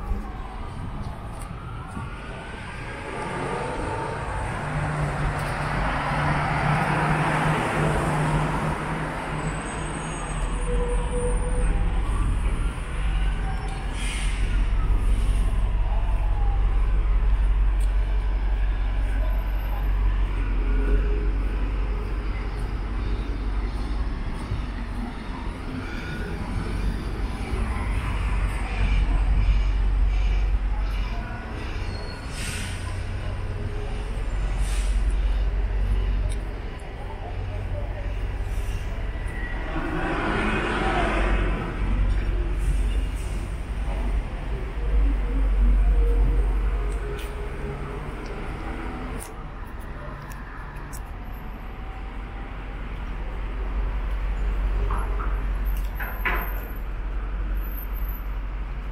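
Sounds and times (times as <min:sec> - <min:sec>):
rumble of passing traffic: 0:00.0 - 0:58.9
tyre and road noise: 0:00.0 - 0:58.9.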